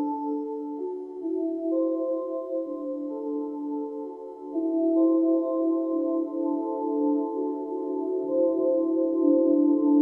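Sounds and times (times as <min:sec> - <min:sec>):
slow ambient synthesizer music: 0:00.0 - 0:10.0.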